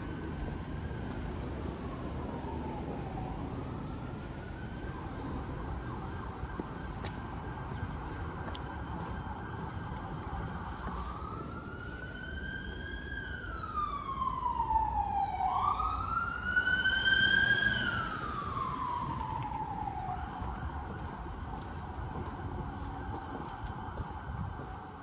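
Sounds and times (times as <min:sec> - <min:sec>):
emergency siren wailing: 0:00.0 - 0:25.0
street traffic hum: 0:00.0 - 0:25.0.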